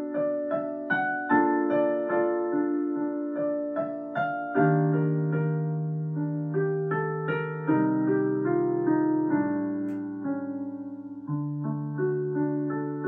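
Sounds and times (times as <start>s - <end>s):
gentle digital piano music: 0.0s - 13.0s.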